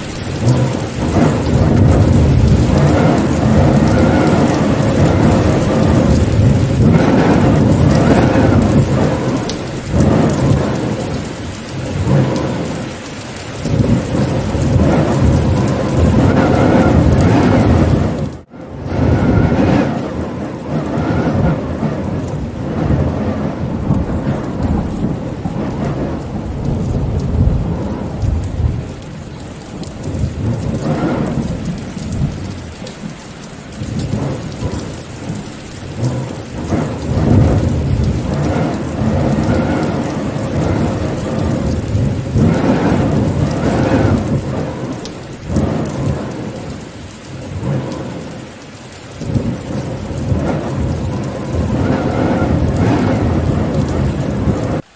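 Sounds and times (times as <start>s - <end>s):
rain falling: 0.0s - 54.9s
thunder rumbling: 0.0s - 54.9s.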